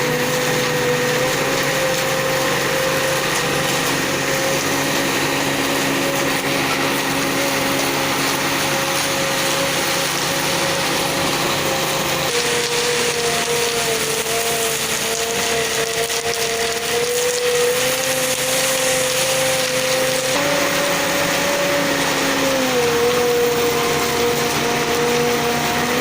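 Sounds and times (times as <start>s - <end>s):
concrete mixer whine: 0.0s - 26.0s.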